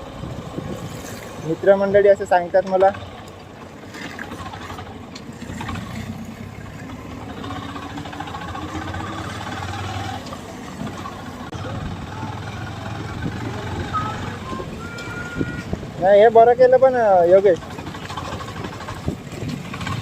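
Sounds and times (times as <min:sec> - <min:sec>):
motorcycle engine running: 0:01.5 - 0:20.0.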